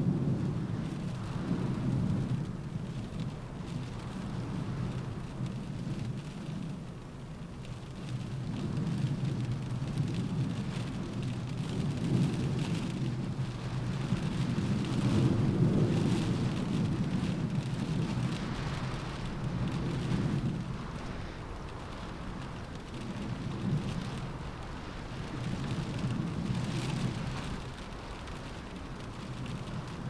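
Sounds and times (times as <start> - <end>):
rain pattering on window: 0.0 - 30.0
wind gusts rumbling: 0.0 - 30.0.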